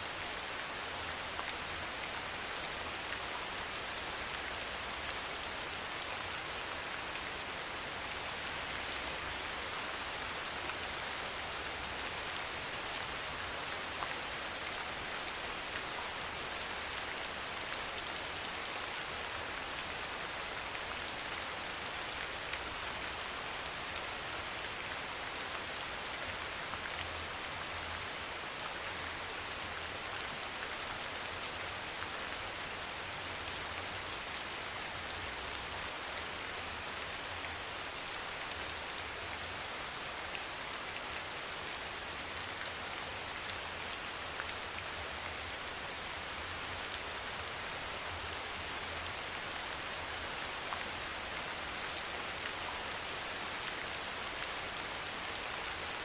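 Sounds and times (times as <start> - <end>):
soft rain falling: 0.0 - 56.0.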